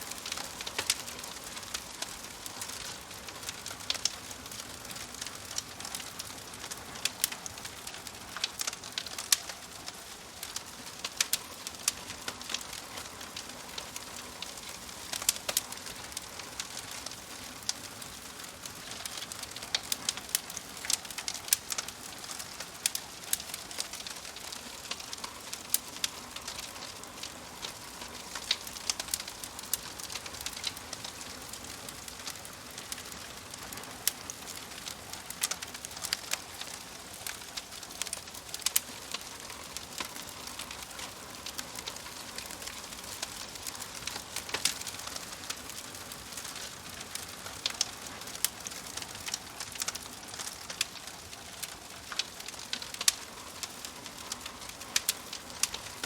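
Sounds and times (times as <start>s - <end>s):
soft fire hiss: 0.0s - 56.0s
wood fire crackling: 0.0s - 56.0s.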